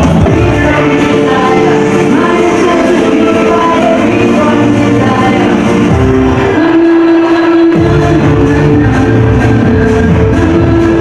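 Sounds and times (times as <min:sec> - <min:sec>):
dance music with steady bass: 0:00.0 - 0:11.0.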